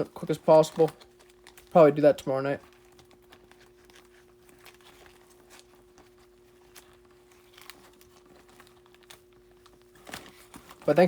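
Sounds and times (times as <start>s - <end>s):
low electrical hum: 0.0s - 11.0s
plastic card sleeves clicking and rustling: 0.0s - 11.0s.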